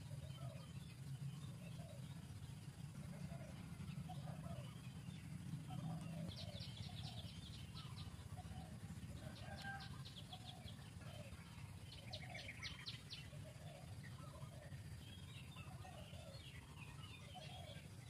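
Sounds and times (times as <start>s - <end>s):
birds trilling: 0.0s - 18.0s.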